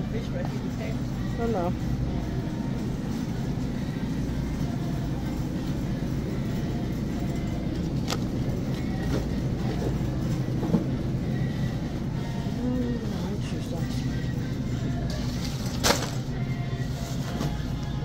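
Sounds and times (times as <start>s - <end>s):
supermarket background rumble: 0.0s - 18.0s.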